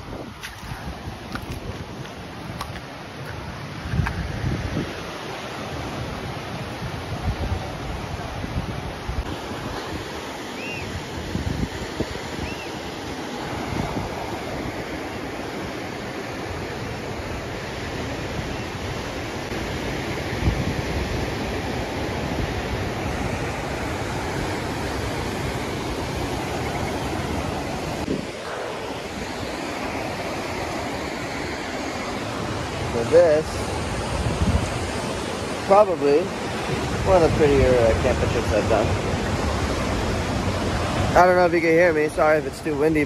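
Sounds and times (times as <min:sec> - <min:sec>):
wind buffeting microphone: 0:00.0 - 0:15.8, 0:16.5 - 0:43.0
ocean surf washing onto beach: 0:00.0 - 0:43.0.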